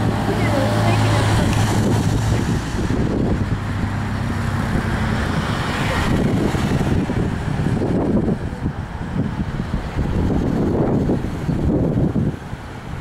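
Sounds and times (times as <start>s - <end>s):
cars passing: 0.0s - 13.0s
truck engine hum: 0.0s - 13.0s.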